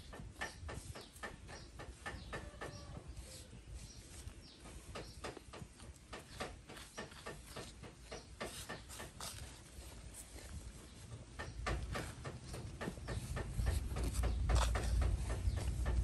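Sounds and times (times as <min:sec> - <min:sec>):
hands patting gritty soil: 0:00.0 - 0:16.0.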